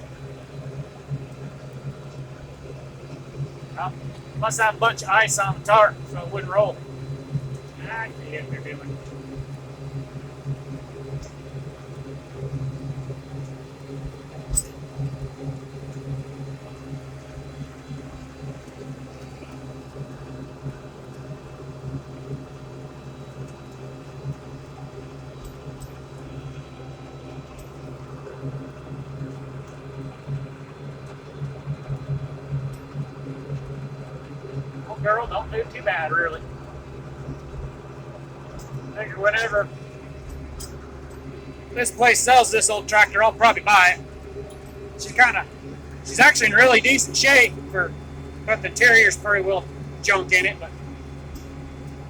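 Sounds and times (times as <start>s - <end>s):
tractor engine droning: 0.0s - 52.0s.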